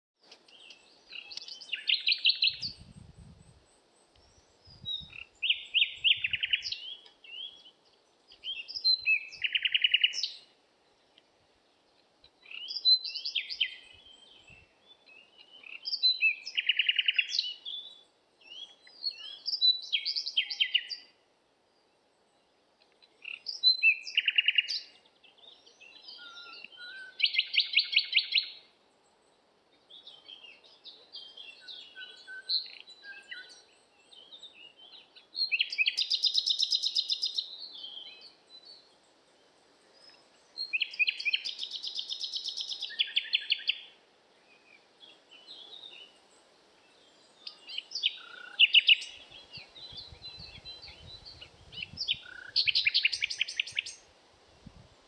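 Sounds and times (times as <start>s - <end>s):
songbird singing with buzzy trill: 0.3s - 54.1s.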